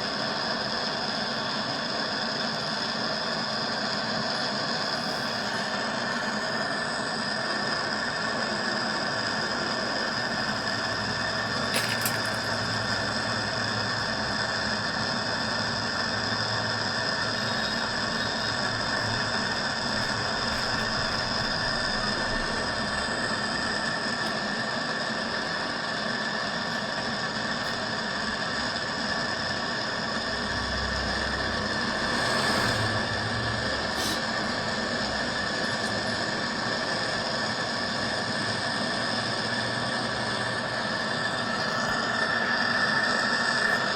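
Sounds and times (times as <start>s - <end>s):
machine humming: 4.3s - 43.9s.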